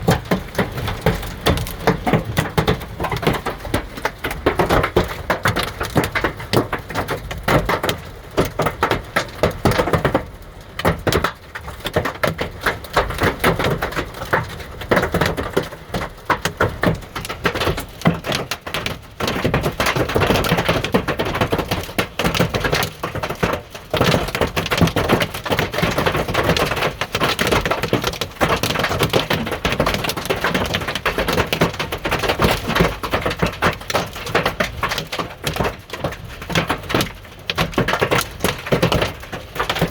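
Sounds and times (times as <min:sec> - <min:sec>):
hail clattering on hard surfaces: 0:00.0 - 0:39.9.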